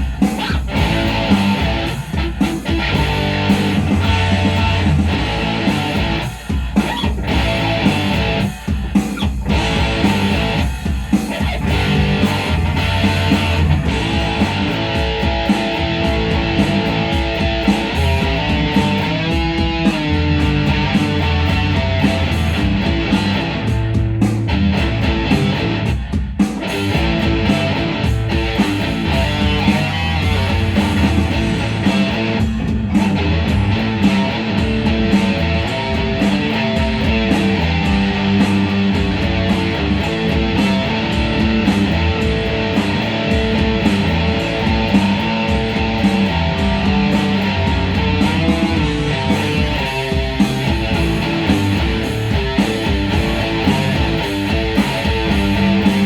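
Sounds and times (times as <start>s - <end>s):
guitar-led music: 0.0s - 56.0s.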